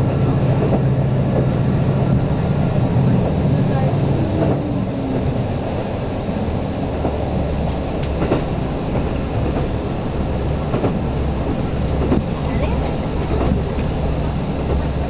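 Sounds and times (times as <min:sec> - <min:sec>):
railcar engine drone: 0:00.0 - 0:15.0
wheels ticking over rail joints: 0:00.0 - 0:15.0.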